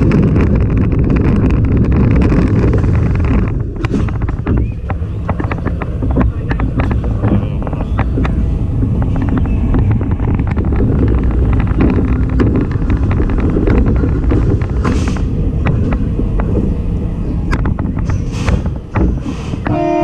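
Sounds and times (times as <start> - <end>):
roller coaster rumbling on track: 0.0 - 20.0
wind on microphone: 0.0 - 20.0.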